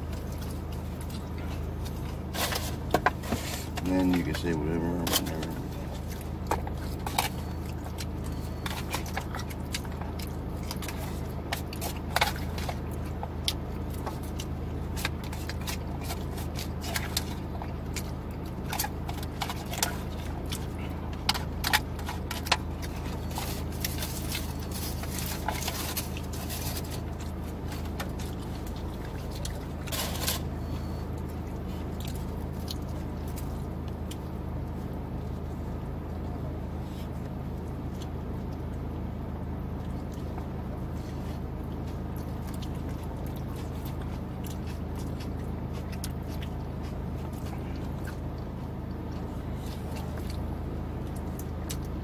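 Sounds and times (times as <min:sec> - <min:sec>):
car engine hum: 0:00.0 - 0:52.0
person chewing: 0:00.0 - 0:52.0.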